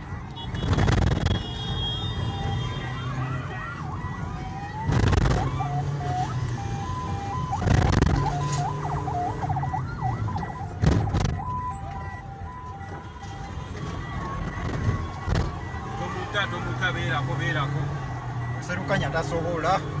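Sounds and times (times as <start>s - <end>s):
car road noise: 0.0s - 20.0s
electronic vehicle siren: 0.2s - 20.0s.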